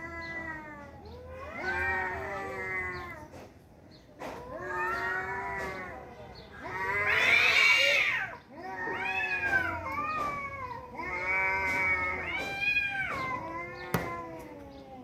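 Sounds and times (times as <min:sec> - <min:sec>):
cats yowling: 0:00.0 - 0:03.4, 0:04.2 - 0:15.0.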